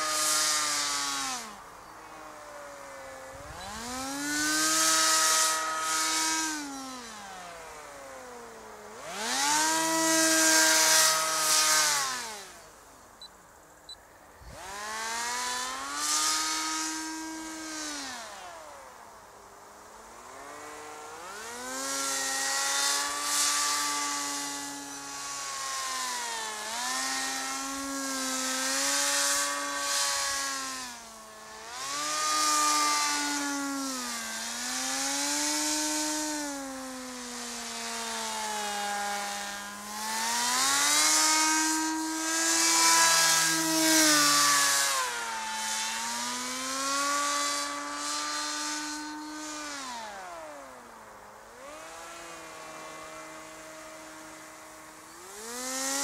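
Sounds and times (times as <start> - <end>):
electric motor and propeller buzzing: 0.0 - 56.0.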